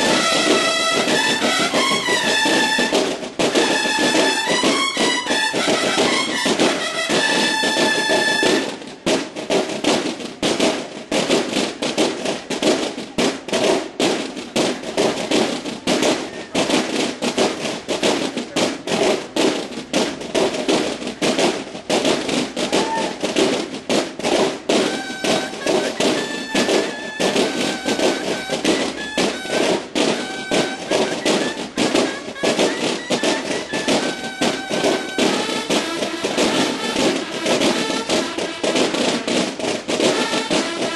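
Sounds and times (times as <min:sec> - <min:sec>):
bugles holding notes: 0:00.0 - 0:40.9
field drums playing cadence: 0:00.0 - 0:40.9.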